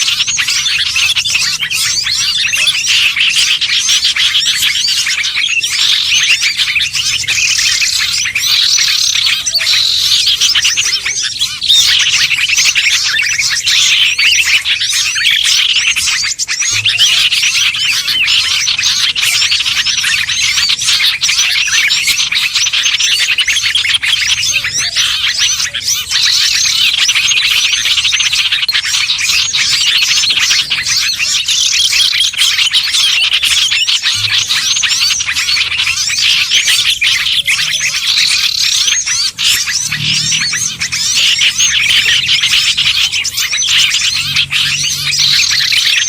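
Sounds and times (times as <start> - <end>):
songbirds chirping and trilling: 0.0 - 46.0.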